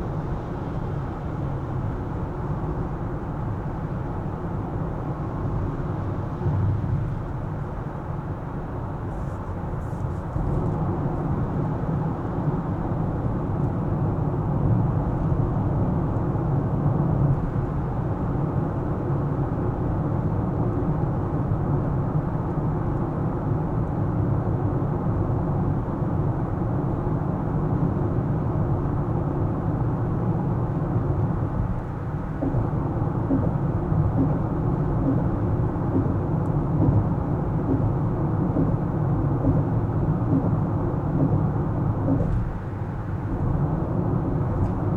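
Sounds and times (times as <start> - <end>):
car tyres and engine rumble: 0.0 - 44.9.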